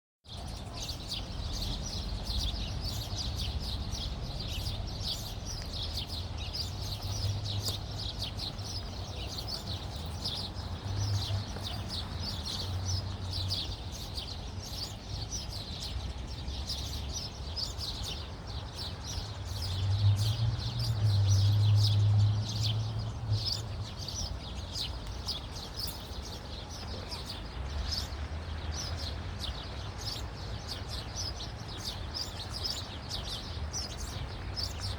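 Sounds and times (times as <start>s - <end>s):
flock of small birds chirping: 0.3s - 34.9s.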